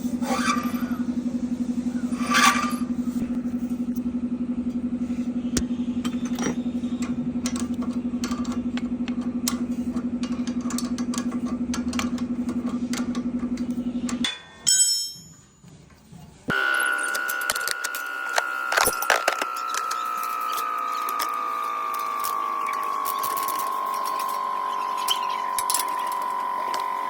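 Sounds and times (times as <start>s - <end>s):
wheel pulsing hum: 0.0s - 14.3s, 15.2s - 27.0s.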